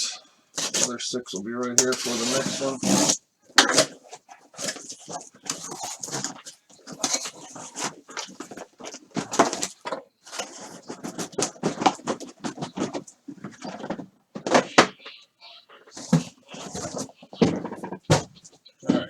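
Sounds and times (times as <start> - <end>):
cardboard boxes rustling and scraping: 0.6 - 1.0, 1.8 - 14.7, 16.0 - 18.6.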